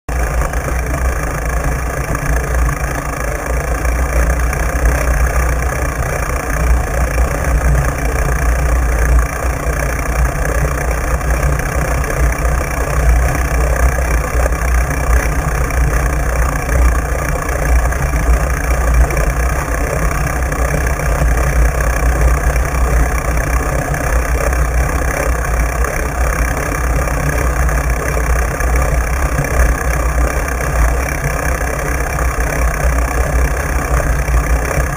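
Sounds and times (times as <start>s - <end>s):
bicycle rolling rumble on sand: 0.1s - 34.9s.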